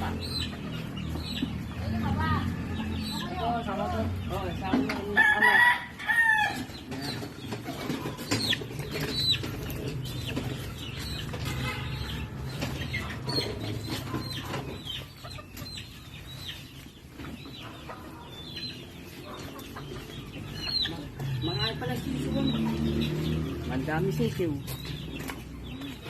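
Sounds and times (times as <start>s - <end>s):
chickens calling: 0.0s - 26.0s.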